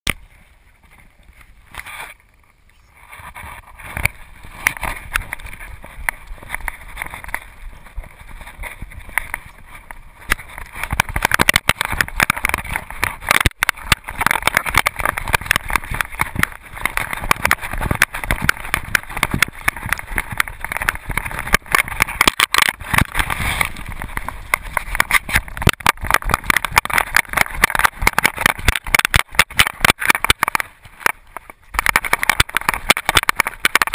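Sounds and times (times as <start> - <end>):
camera rattling and knocking: 3.0 - 33.9.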